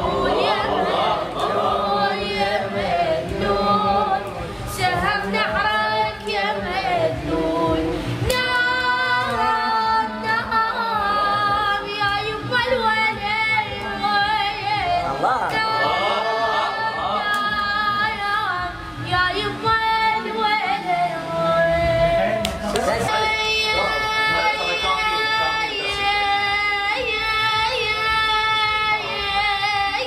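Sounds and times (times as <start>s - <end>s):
high voice singing: 0.0s - 30.0s.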